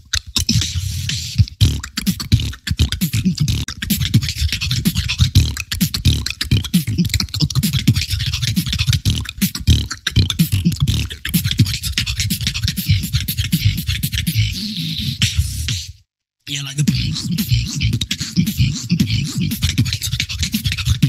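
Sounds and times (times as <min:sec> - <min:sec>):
person beatboxing: 0:00.0 - 0:21.0.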